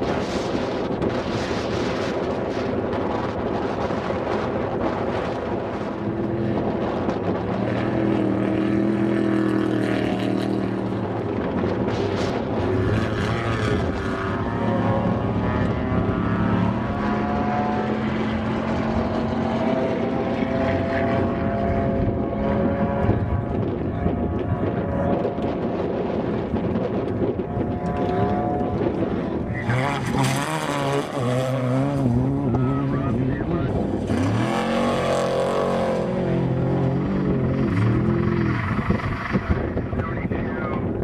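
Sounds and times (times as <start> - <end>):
race truck engines speeding past: 0.0 - 40.0.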